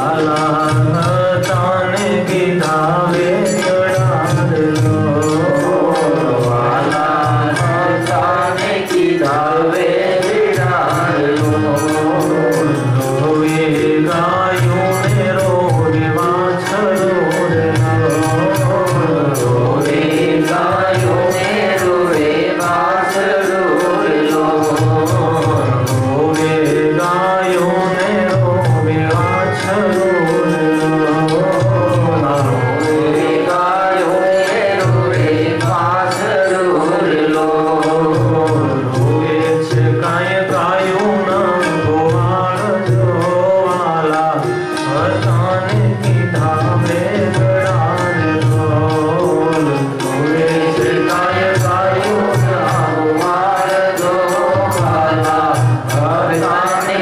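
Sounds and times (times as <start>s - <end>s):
instrumental accompaniment: 0.0s - 57.0s
man singing devotional song: 0.0s - 57.0s
steady percussion beat: 0.0s - 57.0s.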